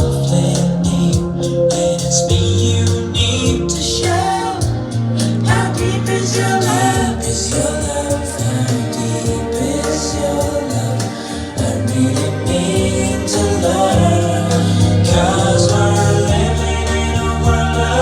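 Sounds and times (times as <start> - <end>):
song with sung vocals: 0.0 - 18.0
sustained bass notes: 0.0 - 18.0.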